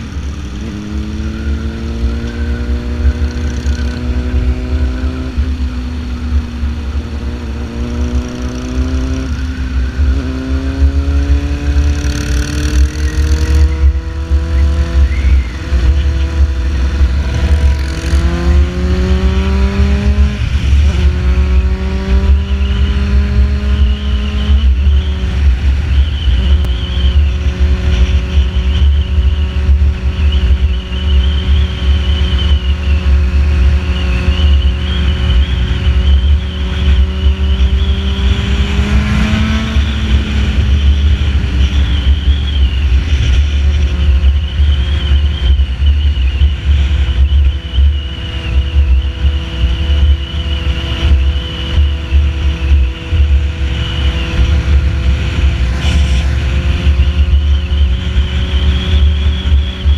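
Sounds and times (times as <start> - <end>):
motorcycle engine accelerating: 0.0 - 59.9
wind rumble on microphone: 2.9 - 59.9.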